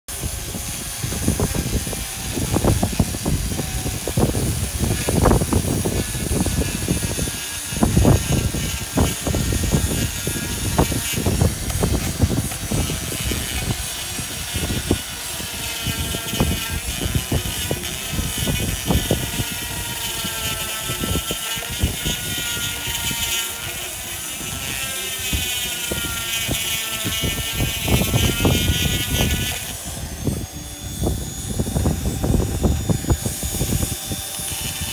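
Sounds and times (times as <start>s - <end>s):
power drill grinding stone: 0.1s - 34.9s.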